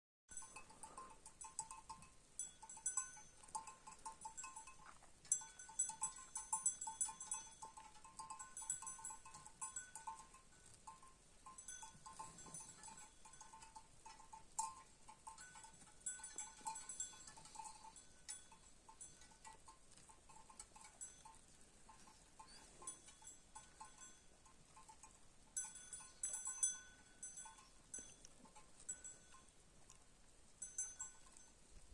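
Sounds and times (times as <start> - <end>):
livestock bells clanking: 0.3 - 29.6, 30.5 - 31.7.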